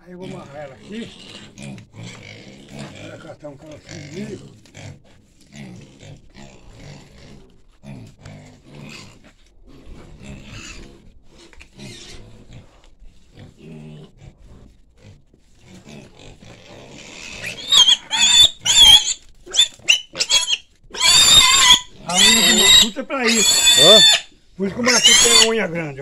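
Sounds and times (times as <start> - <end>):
young pig grunting: 0.0 - 26.0
pig squealing loudly: 0.1 - 5.0, 5.6 - 12.7, 15.7 - 25.8.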